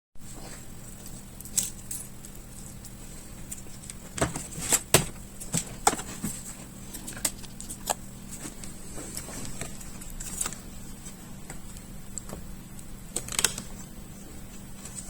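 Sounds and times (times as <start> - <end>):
steady background hum: 0.2 - 15.0.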